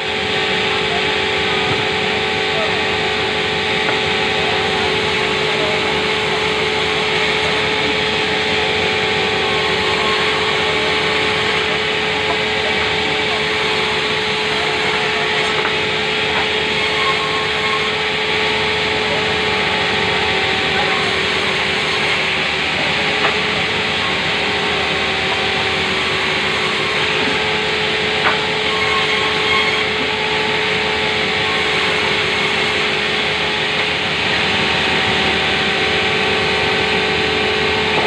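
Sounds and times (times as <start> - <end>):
machine running hum: 0.0 - 38.0
saw cutting timber: 0.0 - 38.0.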